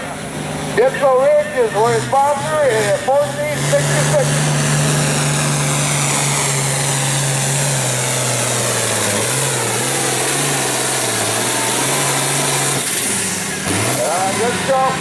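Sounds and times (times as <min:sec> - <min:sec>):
tractor diesel engine at full throttle: 0:00.0 - 0:15.0.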